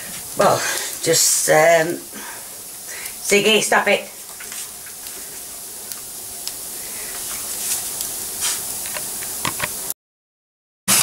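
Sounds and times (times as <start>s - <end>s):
chicken sizzling in a pan: 0.0s - 9.9s.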